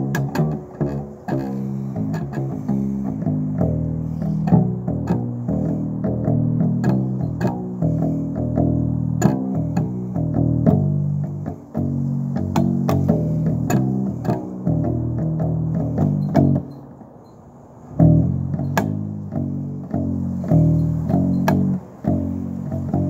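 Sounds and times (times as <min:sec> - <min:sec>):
plucked electric upright bass: 0:00.0 - 0:16.9, 0:17.9 - 0:23.0.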